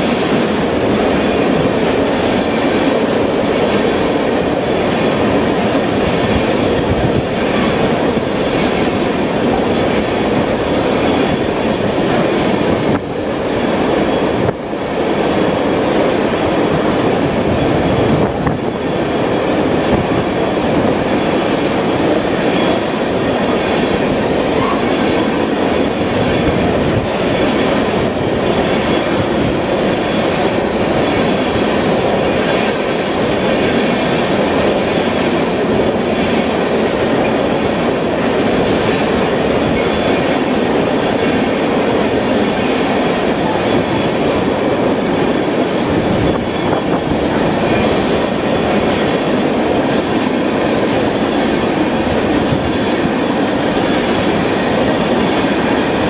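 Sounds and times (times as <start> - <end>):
steel wheels on rails: 0.0 - 56.0
wheels clacking over rail joints: 0.0 - 56.0.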